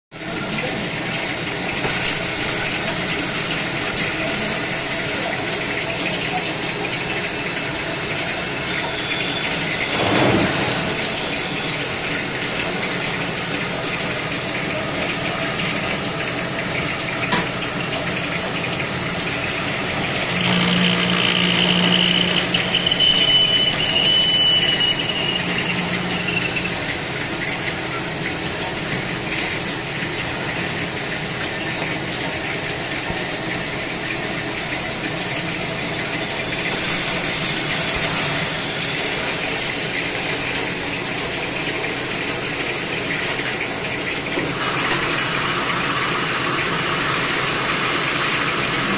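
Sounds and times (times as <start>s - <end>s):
lathe machine running: 0.2s - 48.9s
high squeal of tooling cutting: 3.8s - 30.6s, 31.4s - 48.9s.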